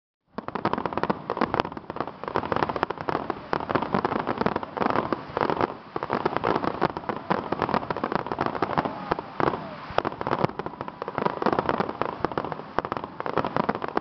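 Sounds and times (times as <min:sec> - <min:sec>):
fireworks bursting and crackling: 0:00.2 - 0:14.0.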